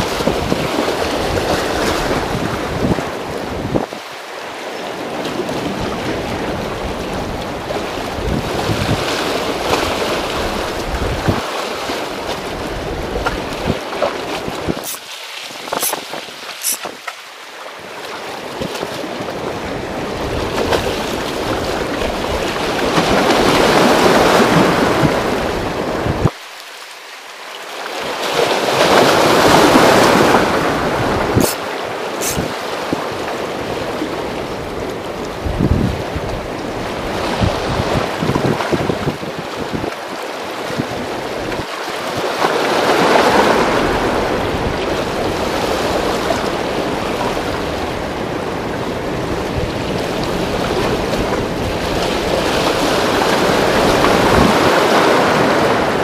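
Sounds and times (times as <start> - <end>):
wind buffeting microphone: 0.0 - 4.1, 5.1 - 17.1, 18.5 - 26.4, 28.9 - 31.6, 32.2 - 56.0
waves washing against concrete: 0.0 - 56.0.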